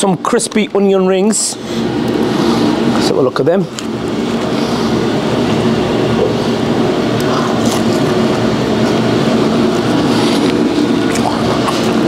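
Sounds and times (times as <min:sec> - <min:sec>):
steady mechanical drone: 0:00.0 - 0:12.0.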